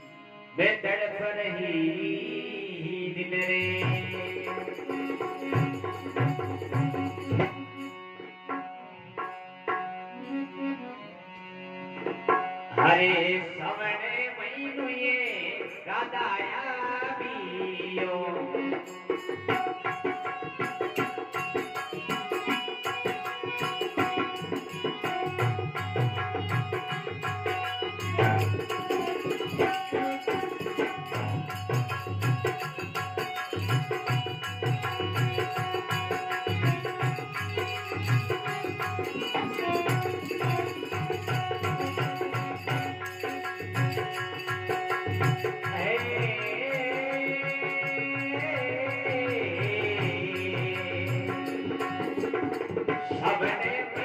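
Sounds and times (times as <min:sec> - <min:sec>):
rhythmic hand drum: 0:03.5 - 0:10.0, 0:12.0 - 0:13.1, 0:17.6 - 0:54.0.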